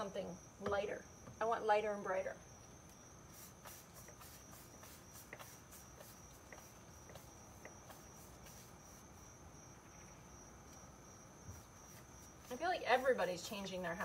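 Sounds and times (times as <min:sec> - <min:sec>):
faint insects chirping: 0:00.0 - 0:14.0.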